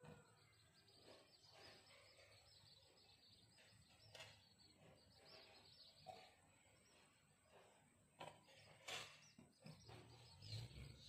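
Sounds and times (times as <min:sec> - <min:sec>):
distant bird twittering: 0:00.0 - 0:11.0.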